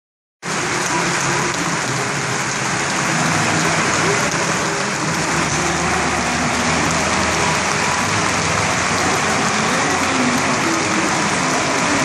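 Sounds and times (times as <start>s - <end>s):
stadium crowd din: 0.4s - 12.0s.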